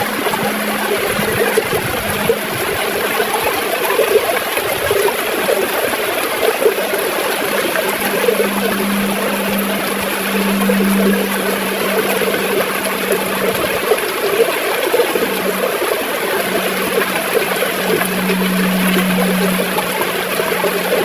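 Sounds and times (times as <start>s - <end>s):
river water gurgling: 0.0s - 21.0s
steady low hum: 0.0s - 21.0s.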